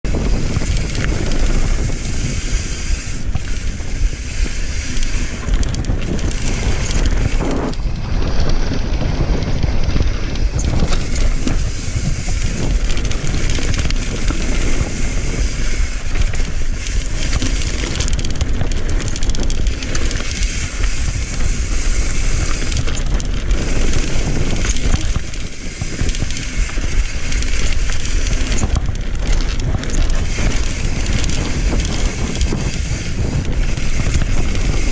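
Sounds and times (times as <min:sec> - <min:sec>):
knobbly tyres rumbling on dirt: 0:00.0 - 0:34.9
wind buffeting microphone: 0:00.0 - 0:34.9
bike clattering over rough ground: 0:00.1 - 0:34.9.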